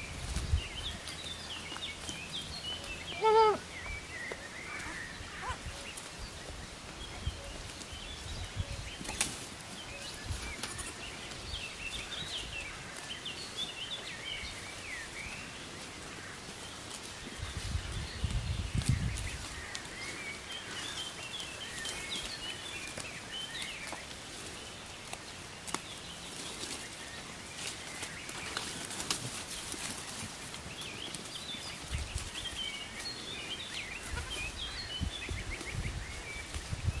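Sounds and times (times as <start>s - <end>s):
leaves rustling and twigs crackling: 0.0s - 37.0s
songbird chirping: 0.0s - 37.0s.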